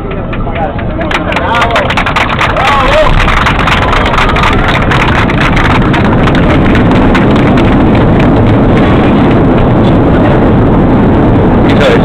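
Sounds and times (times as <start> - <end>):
airplane cabin roar: 0.0 - 12.0
rapid clatter: 0.0 - 12.0.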